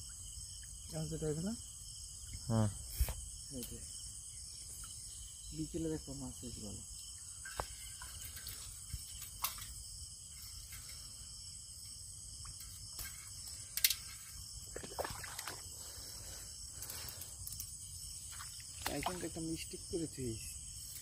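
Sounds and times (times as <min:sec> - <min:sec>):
insects calling: 0:00.0 - 0:21.0.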